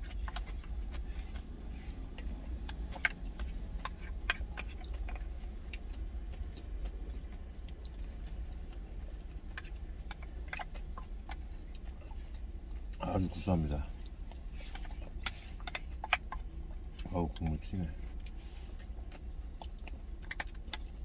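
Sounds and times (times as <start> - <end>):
low hum: 0.0 - 21.0
person chewing: 0.0 - 21.0.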